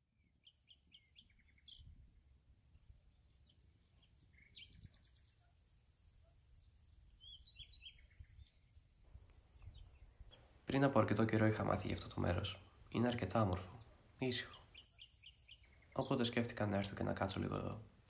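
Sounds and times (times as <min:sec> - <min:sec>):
bird chirps: 0:00.0 - 0:18.0.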